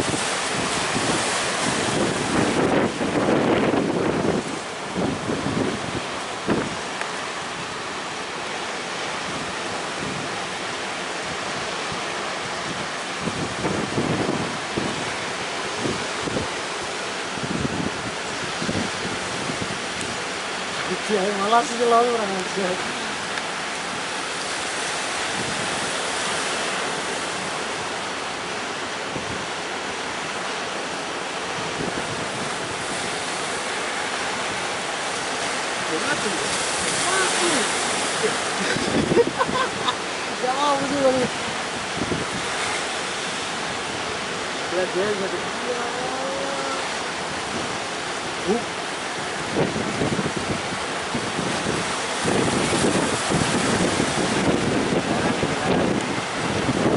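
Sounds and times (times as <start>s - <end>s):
sea waves: 0.0s - 56.9s
wind gusts buffeting microphone: 0.0s - 56.9s.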